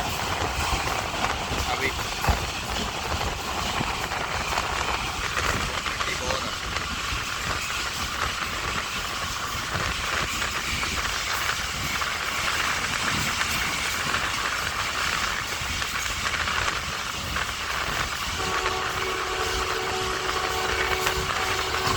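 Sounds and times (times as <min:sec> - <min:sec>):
train wheels rushing on rails: 0:00.0 - 0:21.9.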